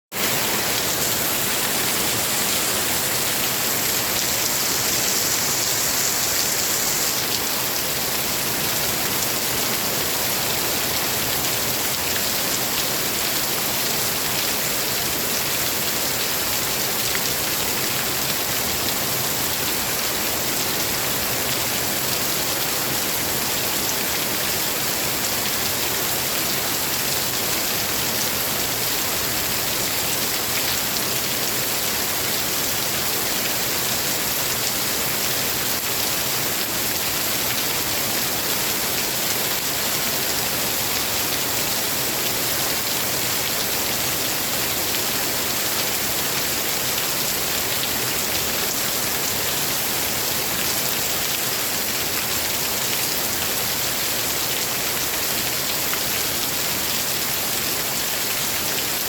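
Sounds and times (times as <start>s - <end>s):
heavy rain falling: 0.1s - 59.0s.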